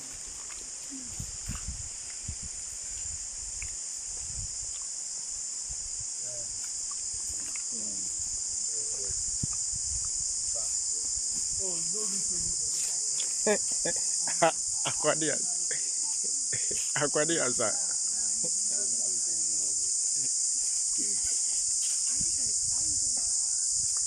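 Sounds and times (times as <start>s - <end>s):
forest insects chorus: 0.0s - 24.0s.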